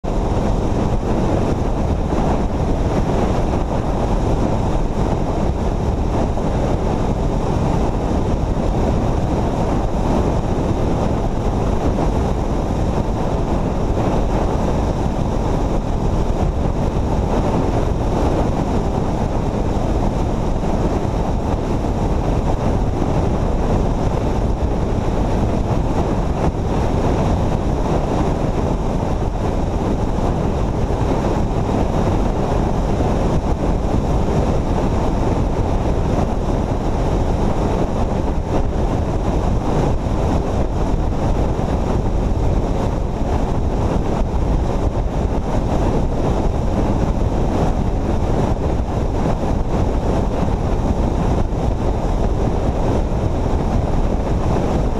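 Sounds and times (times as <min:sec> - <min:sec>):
road noise: 0:00.0 - 0:54.9
wind rushing over microphone: 0:00.0 - 0:54.9.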